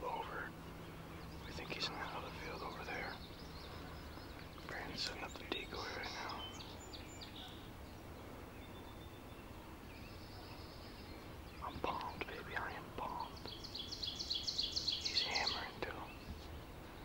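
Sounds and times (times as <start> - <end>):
quiet rural ambience: 0.0 - 17.0
songbirds calling faintly: 0.0 - 17.0.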